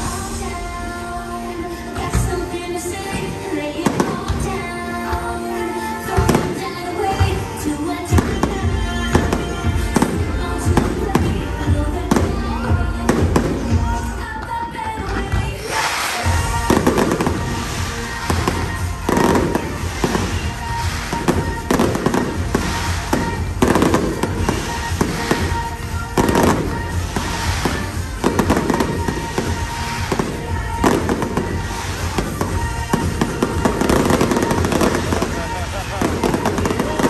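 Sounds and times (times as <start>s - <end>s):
fireworks crackling: 0.0s - 37.0s
music over loudspeakers: 0.0s - 37.0s.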